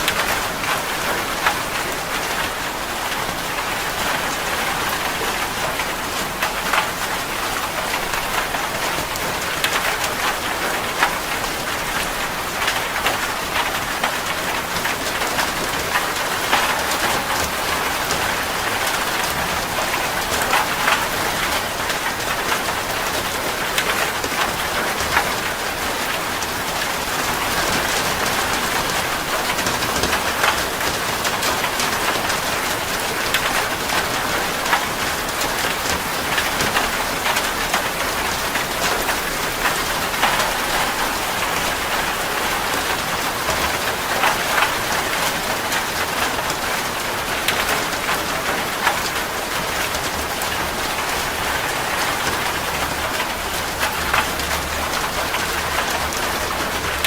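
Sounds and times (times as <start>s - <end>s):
heavy rain on metal roof: 0.0s - 57.0s.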